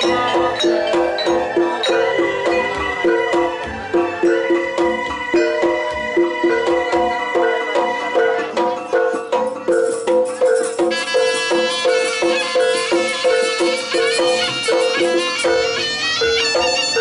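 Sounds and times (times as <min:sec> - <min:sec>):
gamelan metal instruments: 0:00.0 - 0:17.0
high wavering melody: 0:00.0 - 0:17.0.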